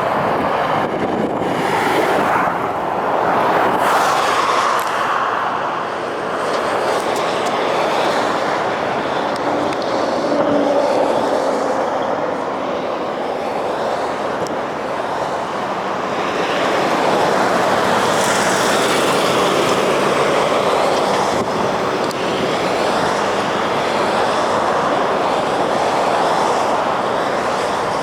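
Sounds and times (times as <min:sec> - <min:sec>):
light rail train on tracks: 0:00.0 - 0:28.0.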